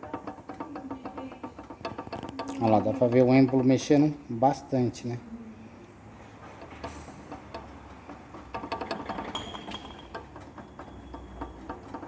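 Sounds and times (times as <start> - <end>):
shock absorber rod clicking: 0.0 - 4.2, 6.5 - 12.0.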